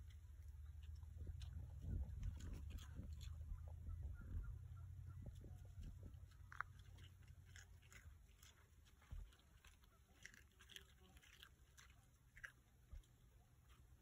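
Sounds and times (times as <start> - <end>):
deer chewing with crunching: 0.0 - 14.0.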